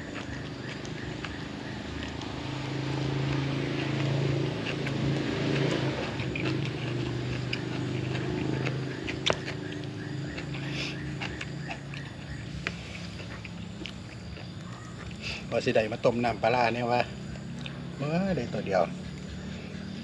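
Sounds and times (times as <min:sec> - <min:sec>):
chewing crunchy vegetables: 0:00.0 - 0:20.0.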